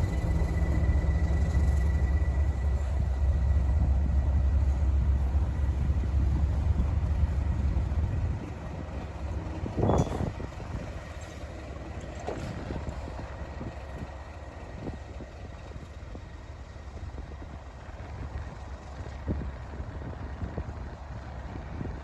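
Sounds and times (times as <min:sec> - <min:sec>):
diesel locomotive rumbling: 0:00.0 - 0:22.0.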